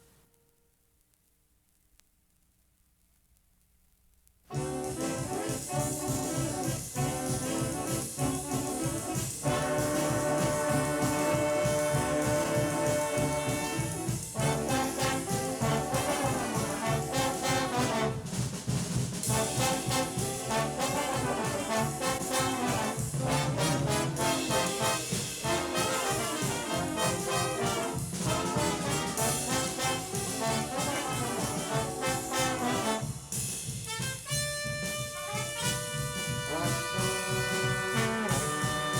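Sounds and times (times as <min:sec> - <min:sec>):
big band jazz: 0:04.5 - 0:38.9
trombones and trumpets: 0:04.5 - 0:38.9.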